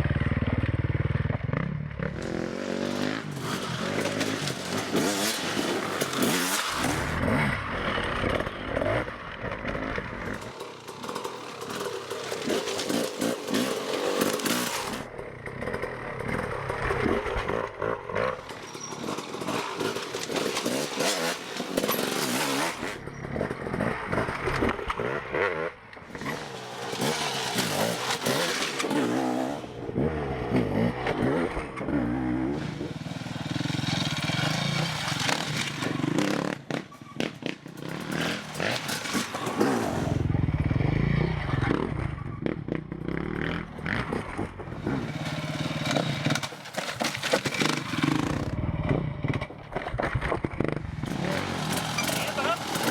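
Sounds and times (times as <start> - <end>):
motorcycle engines revving: 0.0 - 52.9.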